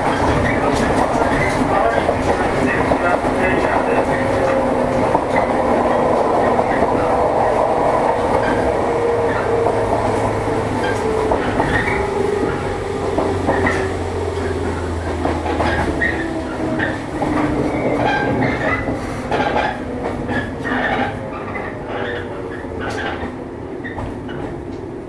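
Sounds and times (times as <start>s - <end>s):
train motor hum inside car: 0.0s - 24.8s
wheels clicking over rail joints: 0.0s - 24.9s.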